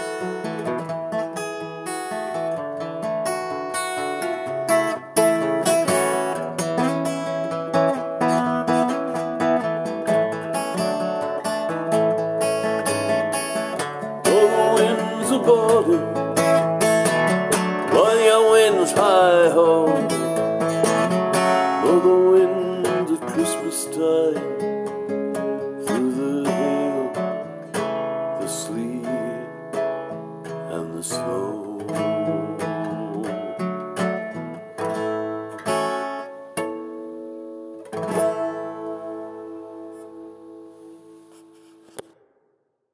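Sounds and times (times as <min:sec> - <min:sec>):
acoustic guitar strumming: 0:00.0 - 0:42.4.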